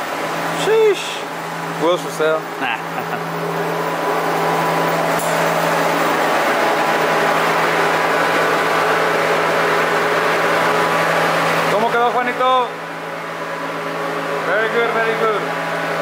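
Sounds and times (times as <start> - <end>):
constant low hum: 0.0 - 16.0
ventilation fan rushing air: 0.0 - 16.0.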